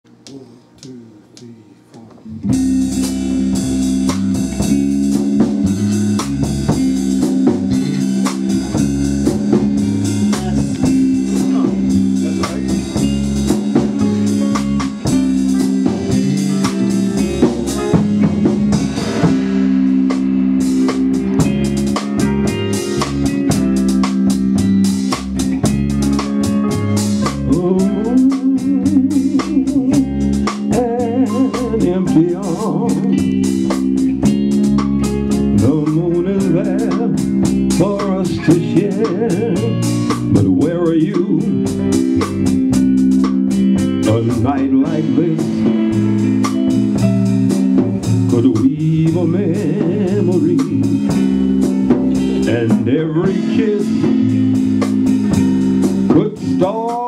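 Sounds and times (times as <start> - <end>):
drums keeping time: 0.1 - 57.0
held keyboard chords: 0.1 - 57.0
electric guitar: 2.2 - 57.0.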